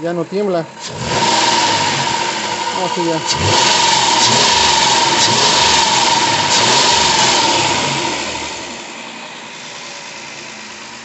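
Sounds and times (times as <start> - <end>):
car engine running with whine: 0.0 - 11.0.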